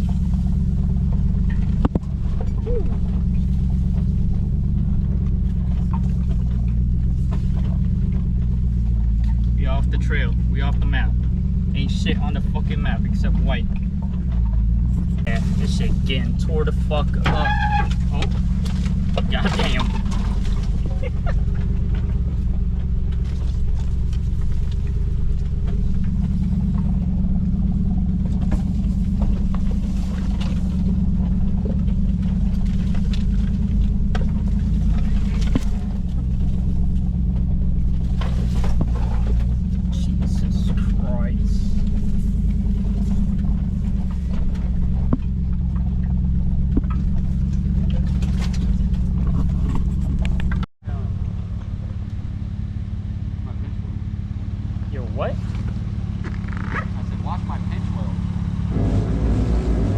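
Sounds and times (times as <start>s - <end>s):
engine droning at low speed: 0.0s - 59.9s
rocks and branches scraping vehicle: 0.0s - 59.9s.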